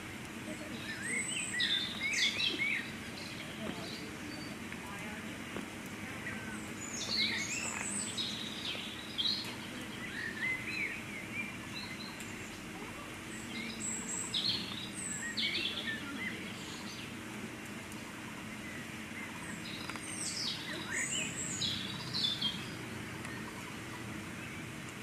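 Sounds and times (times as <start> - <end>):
birds chirping: 0.0 - 25.0
steady background noise: 0.0 - 25.0.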